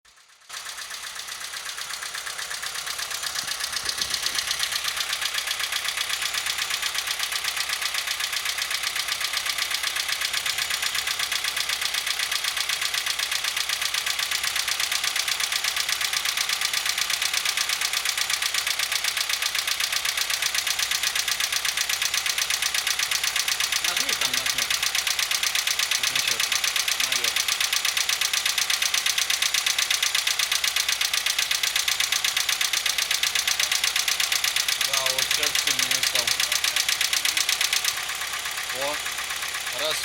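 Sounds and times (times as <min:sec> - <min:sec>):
car engine clattering: 0:00.1 - 0:40.0.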